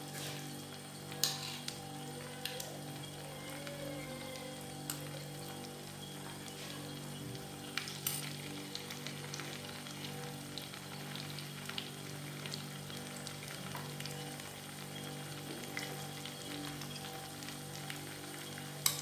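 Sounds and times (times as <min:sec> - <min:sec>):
fritters sizzling in oil: 0:00.0 - 0:19.0.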